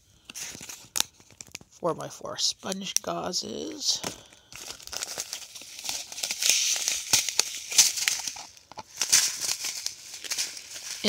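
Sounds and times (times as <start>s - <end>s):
plastic and paper packets crinkling: 0.1s - 1.8s, 2.4s - 11.0s.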